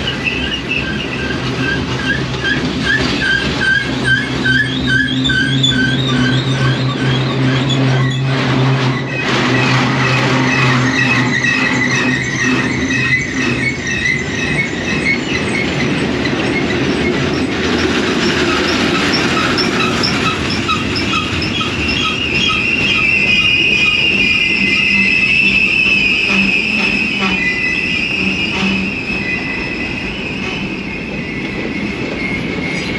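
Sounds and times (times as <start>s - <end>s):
high wheel squeal: 0.0s - 32.9s
train rumbling on rails: 0.0s - 32.9s.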